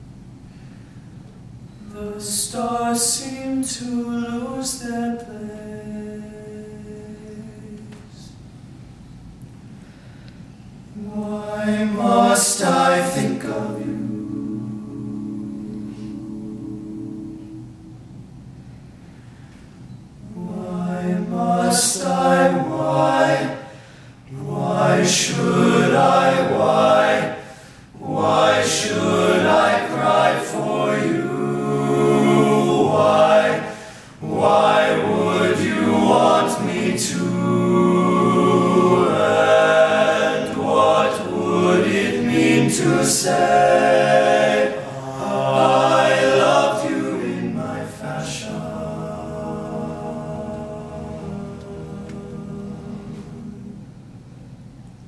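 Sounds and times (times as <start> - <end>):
male group singing a cappella: 1.9 - 8.3, 11.0 - 17.6, 20.2 - 53.8.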